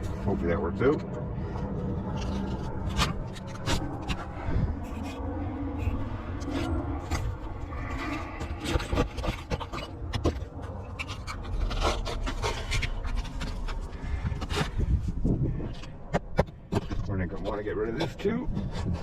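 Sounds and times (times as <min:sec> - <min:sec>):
steady low rumble: 0:00.0 - 0:19.0
hand scraping roof shingles: 0:02.1 - 0:19.0.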